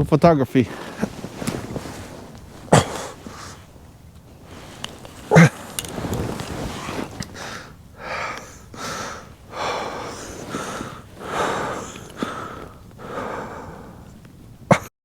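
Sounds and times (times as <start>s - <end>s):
man breathing heavily: 0.7s - 14.9s.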